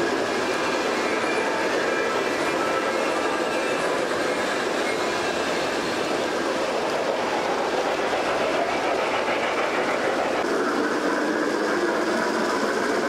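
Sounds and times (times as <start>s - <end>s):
model train wheels rolling on rails: 0.0s - 13.0s.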